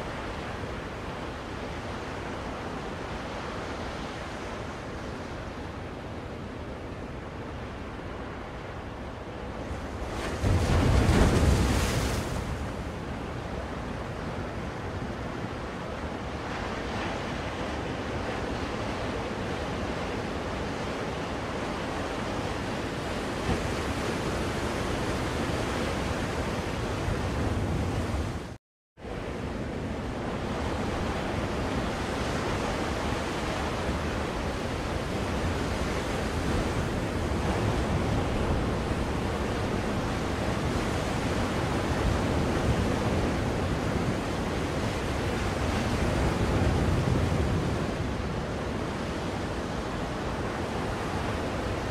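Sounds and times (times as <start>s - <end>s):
ocean waves washing on shore: 0.0s - 51.9s.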